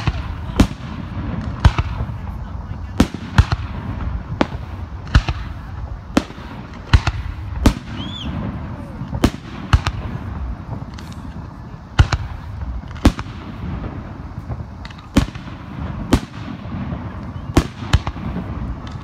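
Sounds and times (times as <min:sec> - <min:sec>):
firework bangs: 0:00.0 - 0:19.0.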